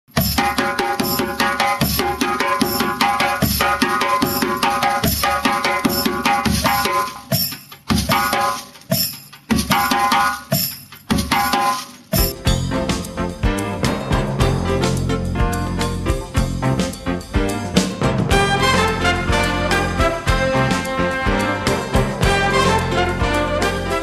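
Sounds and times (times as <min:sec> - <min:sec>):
hand drums and percussion music: 0:00.1 - 0:24.0.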